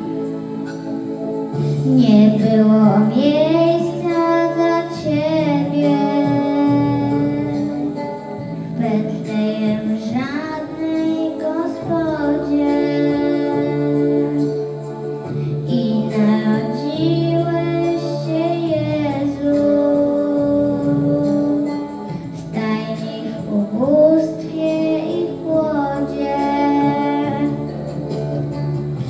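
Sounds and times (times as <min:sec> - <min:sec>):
instrumental accompaniment: 0:00.0 - 0:29.0
girl singing into microphone: 0:01.5 - 0:29.0.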